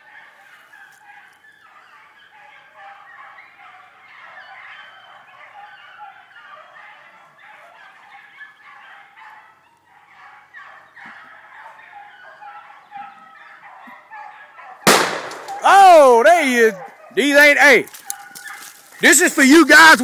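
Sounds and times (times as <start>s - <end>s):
hounds baying and yelping: 0.0s - 20.0s.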